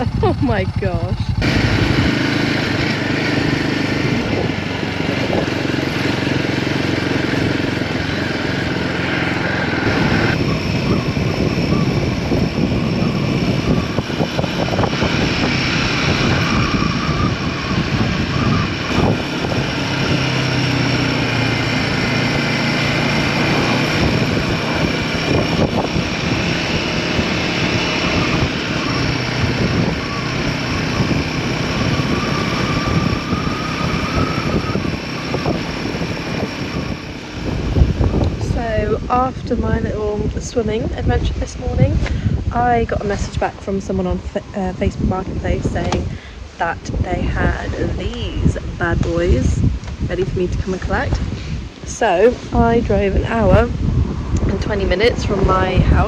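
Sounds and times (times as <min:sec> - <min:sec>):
motorcycle engine riding: 0:00.0 - 0:56.0
wind rushing: 0:00.0 - 0:56.0.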